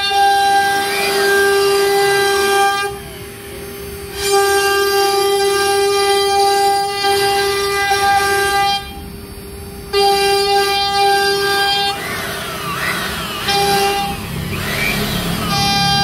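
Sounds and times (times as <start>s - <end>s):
router spindle whining: 0.0s - 16.0s.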